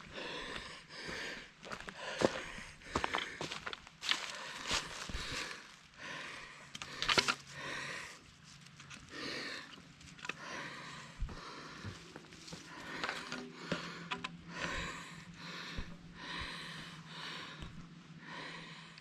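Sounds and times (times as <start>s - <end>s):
person breathing hard: 0.0s - 19.0s.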